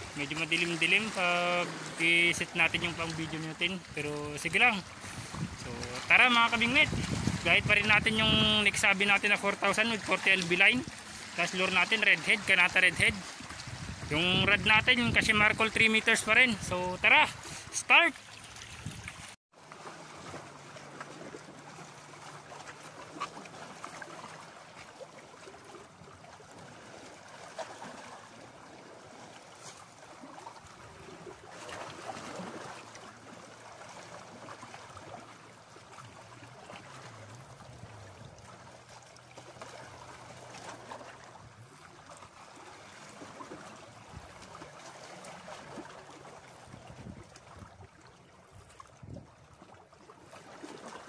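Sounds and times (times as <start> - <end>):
small waves lapping against rocks: 0.0 - 51.0.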